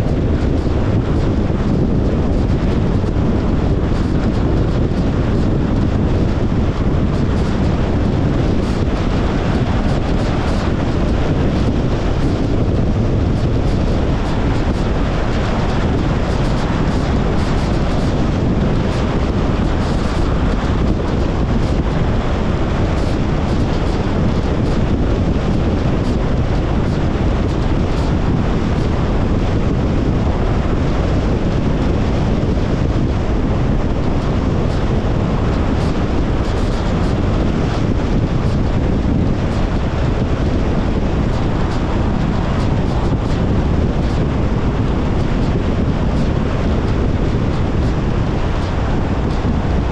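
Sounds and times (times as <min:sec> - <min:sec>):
tyre and wind road noise: 0:00.0 - 0:49.9.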